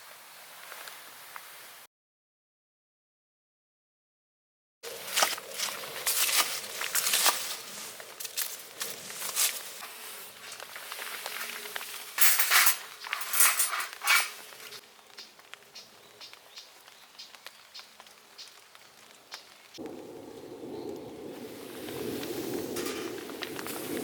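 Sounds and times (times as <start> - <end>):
faint fire crackles: 0.0 - 1.9, 4.8 - 24.0
fire hissing and rustling: 0.0 - 1.9, 4.8 - 24.0.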